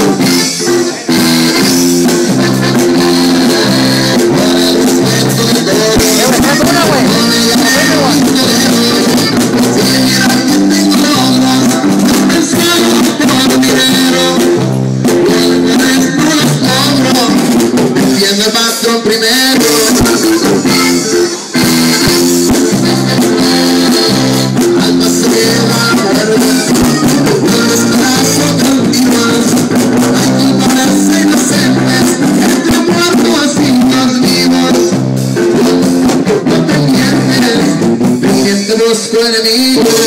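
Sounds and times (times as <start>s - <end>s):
button accordion melody: 0.0s - 38.6s
electric bass: 0.0s - 38.7s
drum kit: 0.0s - 40.0s
guitar: 0.0s - 40.0s.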